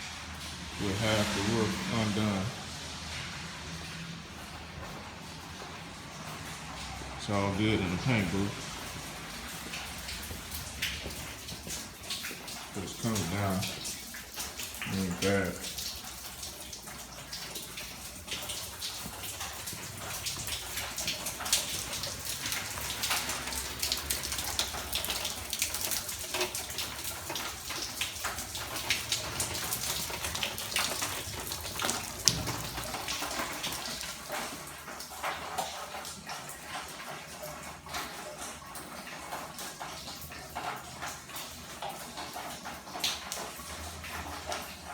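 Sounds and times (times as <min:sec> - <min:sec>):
rainwater pouring through roof: 0:00.0 - 0:44.9.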